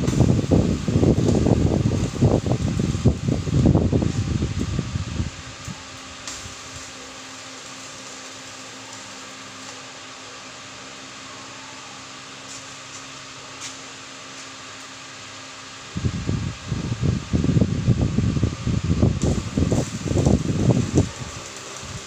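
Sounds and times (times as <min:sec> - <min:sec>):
machine fan humming: 0:00.0 - 0:22.0.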